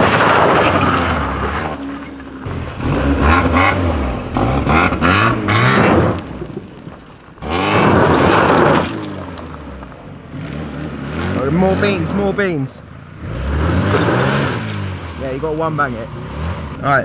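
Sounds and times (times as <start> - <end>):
car engine cranking and revving: 0.0 - 17.0.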